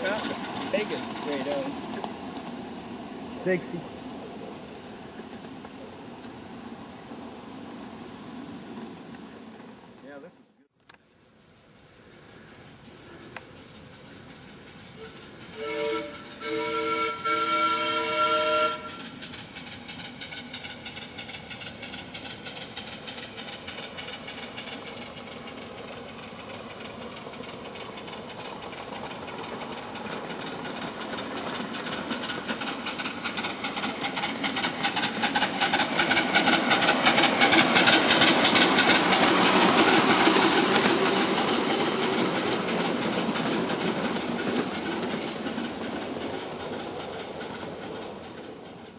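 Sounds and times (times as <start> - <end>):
steam locomotive chuffing: 0.0 - 10.3, 11.0 - 48.9.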